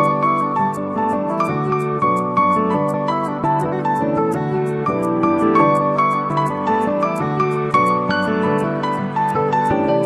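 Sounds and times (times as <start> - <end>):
soft new-age instrumental music: 0.0 - 10.0.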